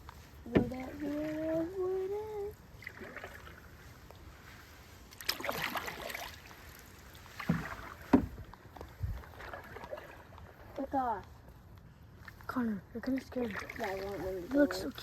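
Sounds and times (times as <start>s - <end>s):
paddle swishing through water: 0.0s - 15.0s
knocks and splashes: 0.2s - 11.2s, 12.2s - 15.0s.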